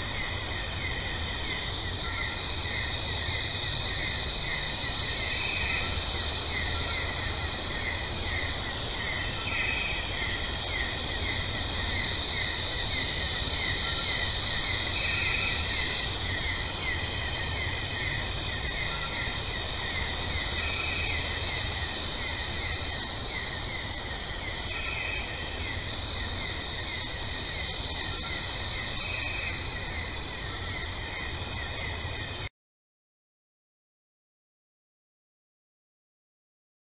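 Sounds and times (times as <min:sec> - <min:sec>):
crickets chirping: 0:00.0 - 0:32.5
high insect drone: 0:00.0 - 0:32.5.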